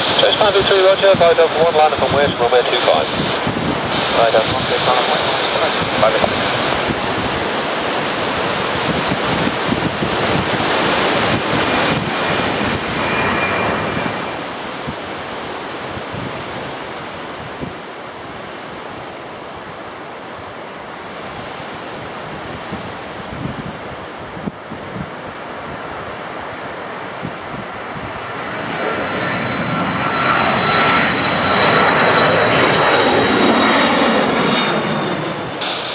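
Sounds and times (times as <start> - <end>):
gusty wind buffeting microphone: 0.0 - 35.9.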